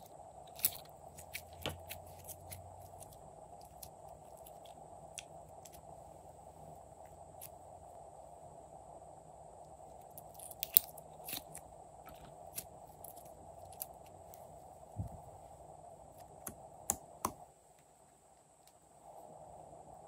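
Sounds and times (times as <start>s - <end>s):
faint background hum: 0.0s - 20.0s.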